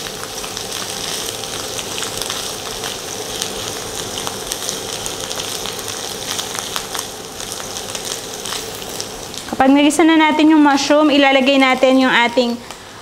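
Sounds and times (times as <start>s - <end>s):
mushrooms sizzling in a frying pan: 0.0s - 13.0s.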